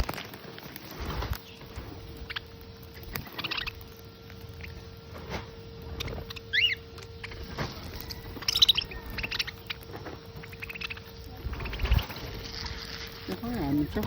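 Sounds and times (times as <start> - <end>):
birds pecking and scrabbling: 0.0 - 14.0
faint steady hum: 0.0 - 14.0.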